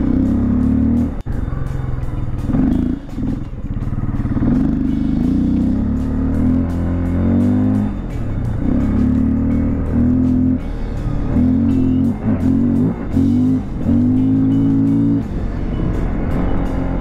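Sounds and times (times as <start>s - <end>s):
dirt bike engine: 0.0s - 17.0s.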